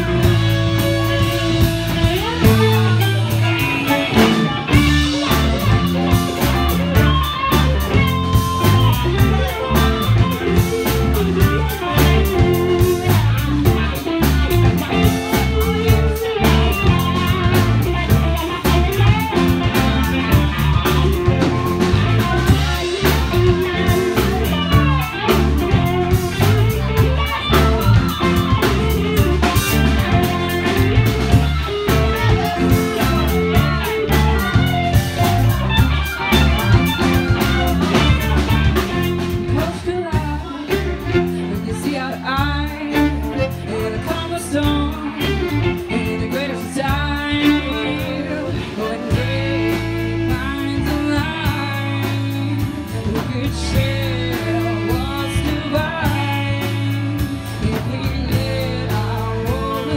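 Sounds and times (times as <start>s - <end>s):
drum kit beat: 0.0s - 59.9s
electric guitars: 0.0s - 59.9s.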